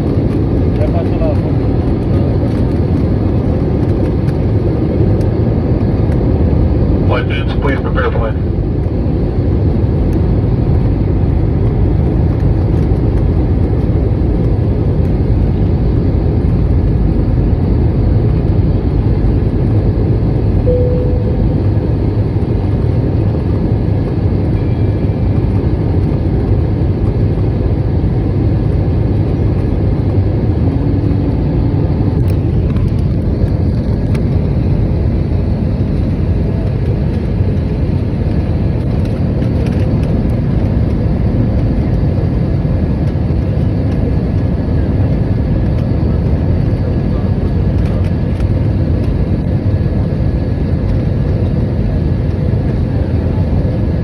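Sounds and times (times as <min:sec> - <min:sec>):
airliner cabin engine noise: 0:00.0 - 0:54.0.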